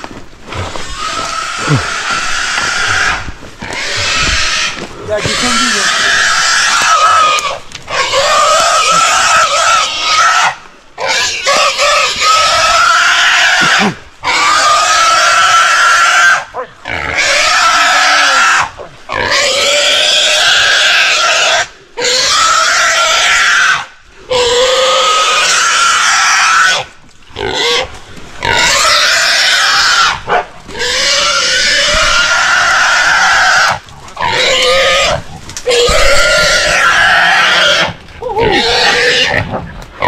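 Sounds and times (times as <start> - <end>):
hog squealing: 0.8 - 26.8, 30.8 - 39.4.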